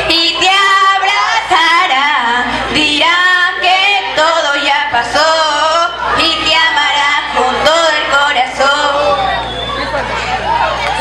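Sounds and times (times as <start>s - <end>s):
young people singing: 0.0s - 9.6s.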